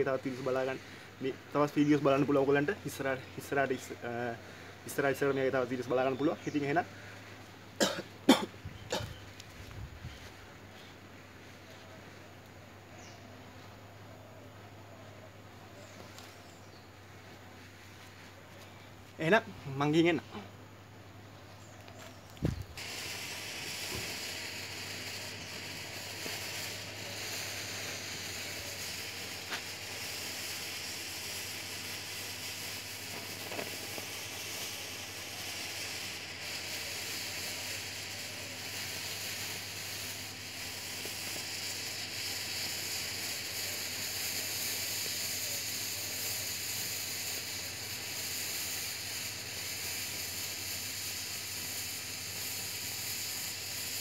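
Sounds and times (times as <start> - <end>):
smoke bomb hissing: 0.0 - 54.0.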